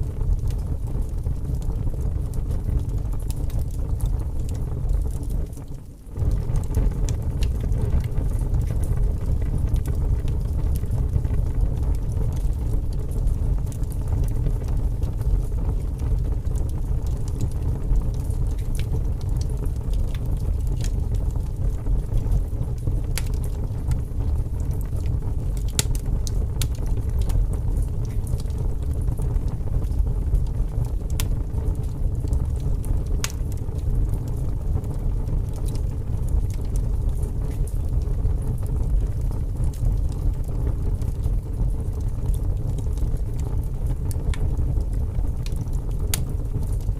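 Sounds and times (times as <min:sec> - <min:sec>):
fire crackling and popping: 0:00.0 - 0:46.9
fire rumbling: 0:00.0 - 0:46.9.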